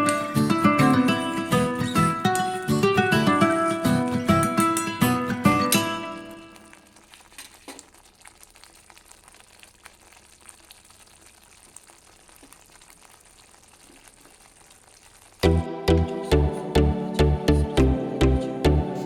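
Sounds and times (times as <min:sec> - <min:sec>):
food sizzling in a pan: 0:00.0 - 0:15.6.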